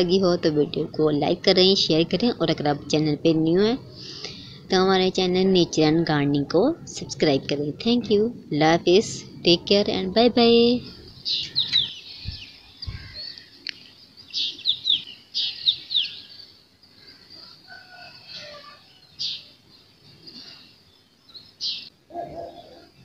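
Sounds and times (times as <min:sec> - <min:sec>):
small birds chirping: 0:00.7 - 0:23.0.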